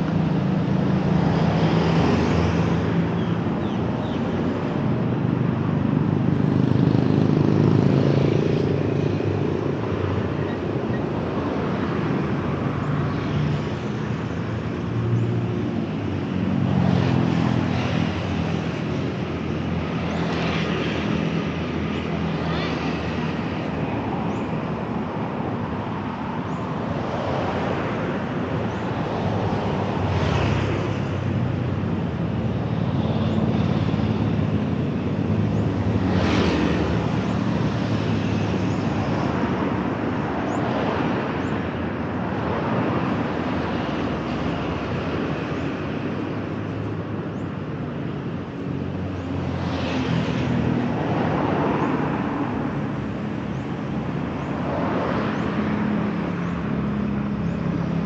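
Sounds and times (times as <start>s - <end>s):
city road traffic: 0.0s - 58.0s
vehicles passing close by: 0.0s - 58.0s.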